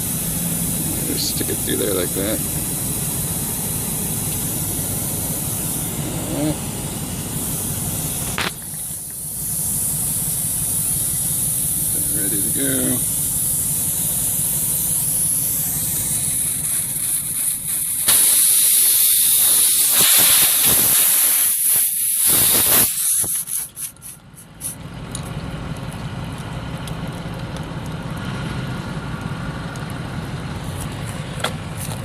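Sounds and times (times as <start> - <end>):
air hissing from punctured tire: 0.0 - 25.4, 29.7 - 32.0.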